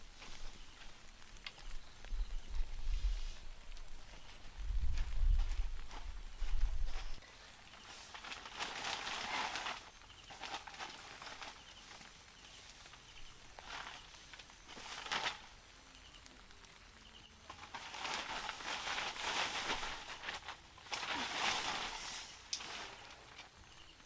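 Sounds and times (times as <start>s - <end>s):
rustling and scuffing: 0.0s - 15.7s, 17.5s - 24.0s.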